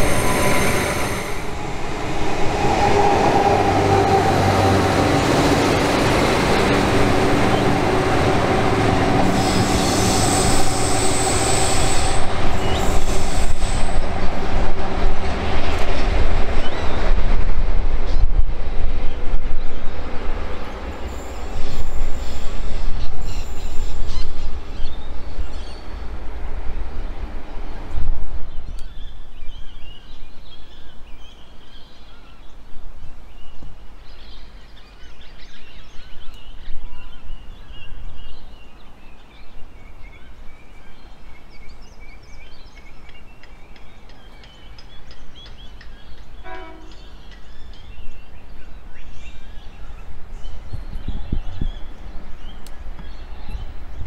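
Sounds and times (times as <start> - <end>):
diesel railcar passing: 0.0 - 28.9, 39.6 - 54.0.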